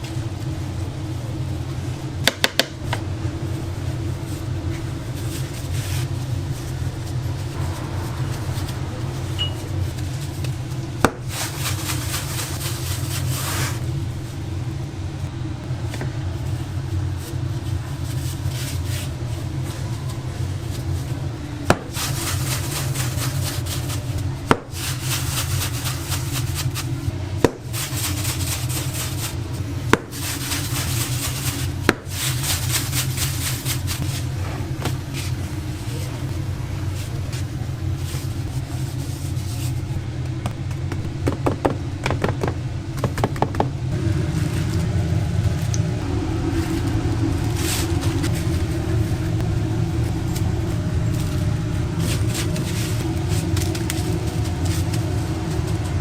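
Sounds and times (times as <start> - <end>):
hands rubbing and handling food: 0.0 - 41.0, 43.9 - 56.0
low machine hum: 0.0 - 56.0.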